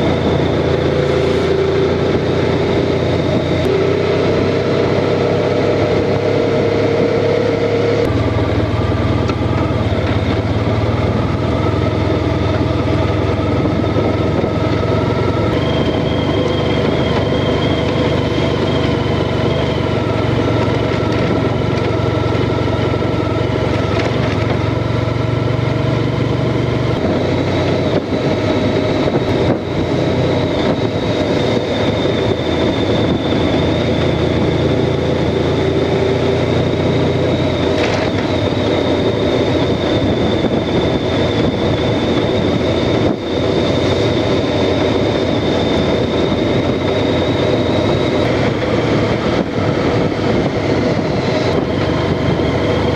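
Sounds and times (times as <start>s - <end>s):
motorcycle engine running: 0.0s - 52.9s
rush of noise: 0.0s - 52.9s.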